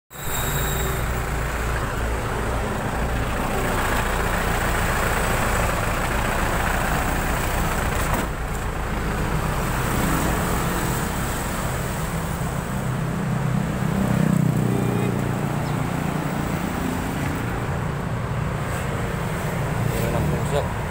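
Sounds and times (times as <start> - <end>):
road traffic: 0.1 - 20.9
truck engine droning: 0.1 - 20.9.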